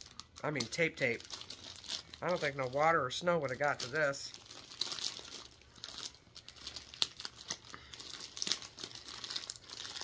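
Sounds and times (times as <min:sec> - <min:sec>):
plastic mailer crinkling and tearing: 0:00.0 - 0:10.0.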